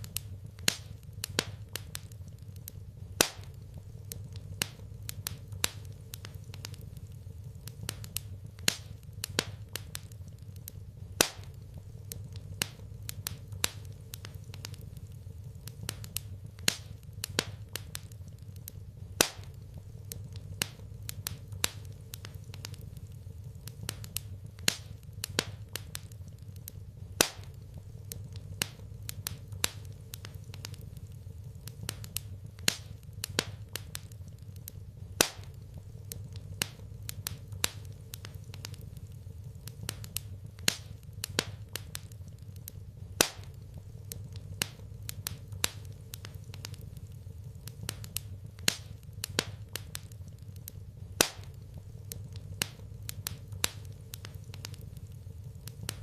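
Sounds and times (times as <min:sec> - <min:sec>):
low steady rumble: 0:00.0 - 0:56.0
wood fire crackling: 0:00.0 - 0:56.0.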